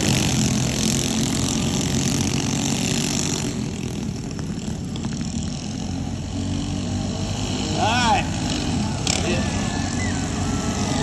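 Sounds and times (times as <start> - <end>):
minibike engines racing past: 0.0 - 11.0.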